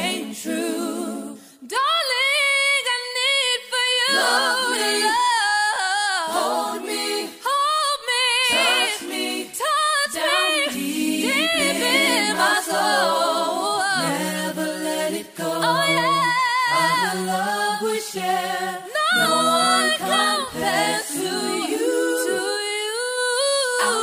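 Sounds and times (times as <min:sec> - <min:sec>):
voices singing in harmony: 0:00.0 - 0:24.0.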